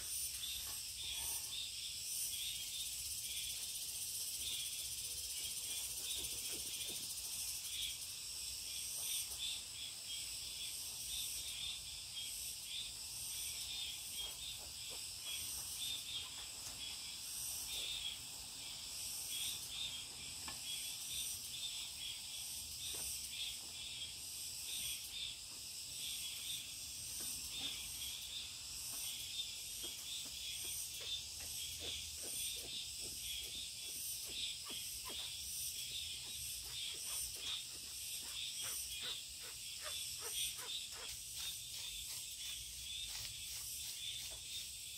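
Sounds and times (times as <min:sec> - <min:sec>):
pulsing insect chorus: 0:00.0 - 0:44.9.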